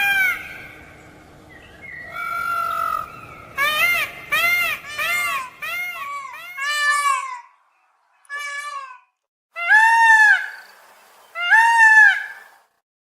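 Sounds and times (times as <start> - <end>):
peacock calling: 0.0 - 12.8.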